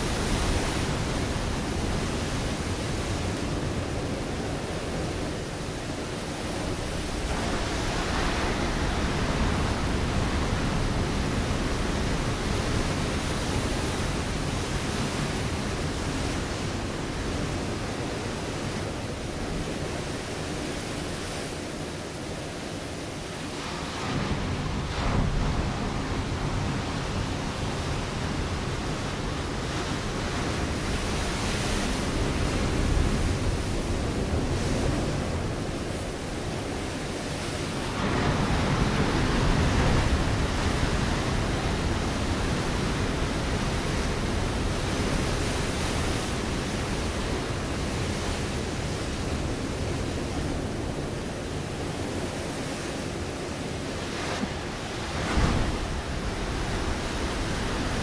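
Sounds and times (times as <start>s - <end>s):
waves breaking on rocky shore: 0.0s - 58.0s.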